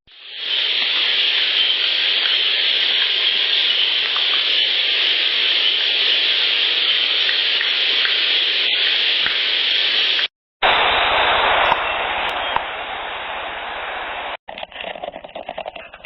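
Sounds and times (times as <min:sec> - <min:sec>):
steady hiss: 0:00.1 - 0:14.4.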